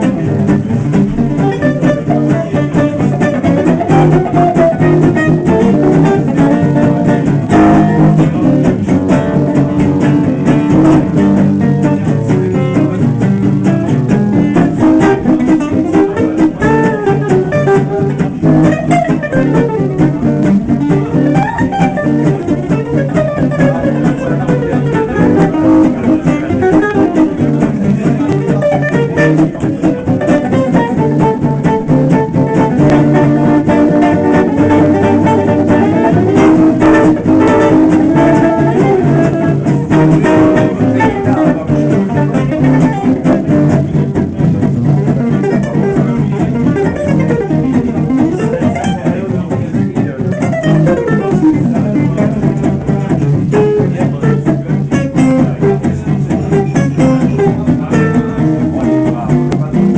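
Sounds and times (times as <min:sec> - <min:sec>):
acoustic guitar lead runs: 0:00.0 - 0:59.9
strummed rhythm guitar: 0:00.0 - 0:59.9.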